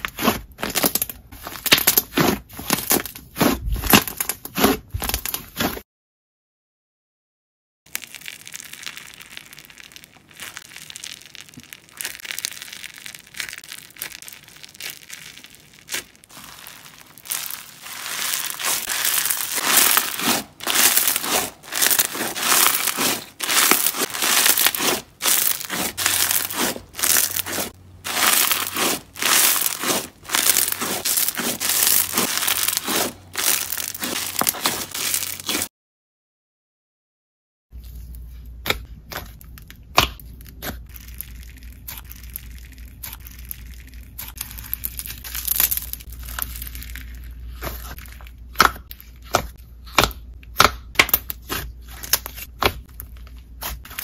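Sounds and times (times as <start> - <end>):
crunchy slime being squeezed: 0.0 - 5.8, 7.9 - 35.7, 38.6 - 54.0.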